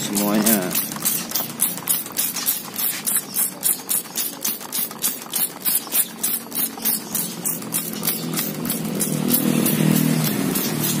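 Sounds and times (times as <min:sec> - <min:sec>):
trigger sprayer hissing: 0:00.0 - 0:11.0.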